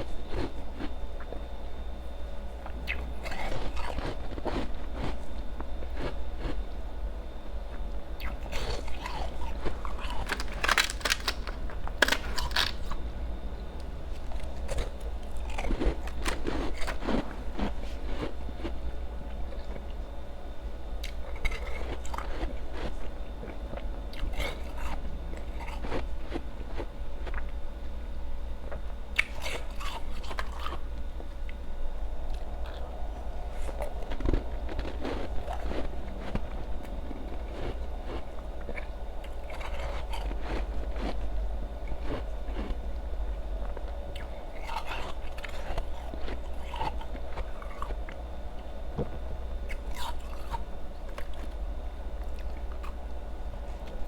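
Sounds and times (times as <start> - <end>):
ice being crunched and chewed: 0.0 - 1.5, 2.6 - 6.8, 7.7 - 13.1, 13.7 - 20.0, 21.0 - 27.6, 28.7 - 54.0
steady low hum: 0.0 - 54.0.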